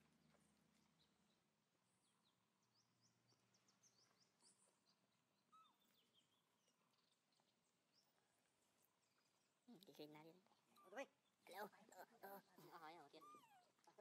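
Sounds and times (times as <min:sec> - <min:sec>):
faint high bird chirps: 0:00.0 - 0:14.0.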